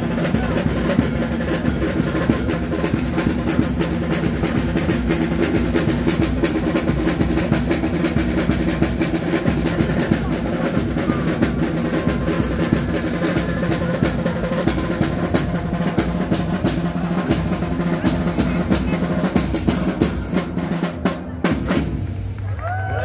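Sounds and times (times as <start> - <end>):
street drums in fast rolling rhythm: 0.0 - 22.3.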